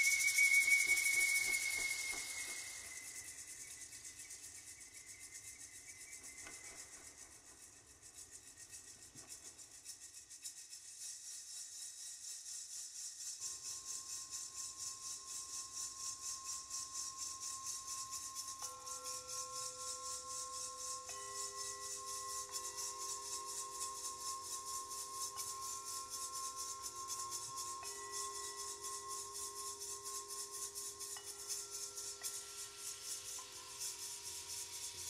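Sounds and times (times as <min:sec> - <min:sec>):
soft pulsing rattling hiss: 0:00.0 - 0:35.0.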